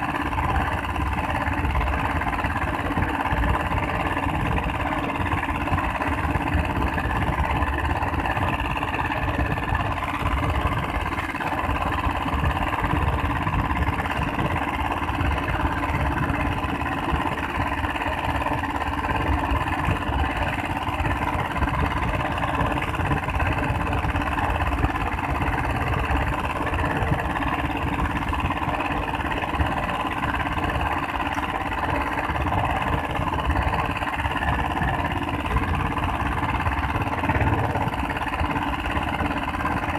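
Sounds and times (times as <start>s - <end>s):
boat diesel engine running: 0.0s - 39.9s.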